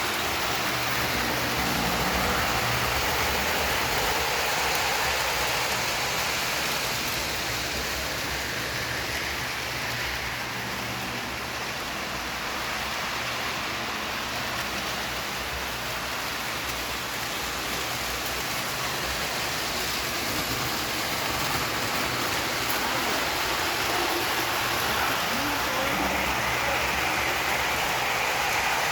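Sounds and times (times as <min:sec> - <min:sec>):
model train running on track: 0:00.0 - 0:28.9.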